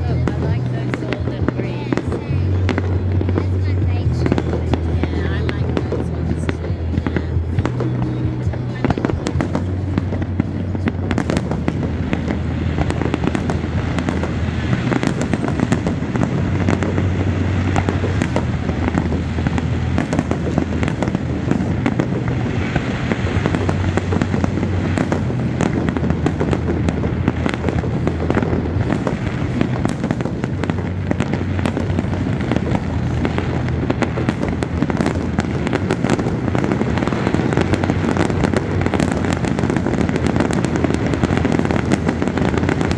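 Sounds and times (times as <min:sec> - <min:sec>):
firework bangs and crackling: 0:00.0 - 0:42.9
low rumble: 0:00.0 - 0:42.9.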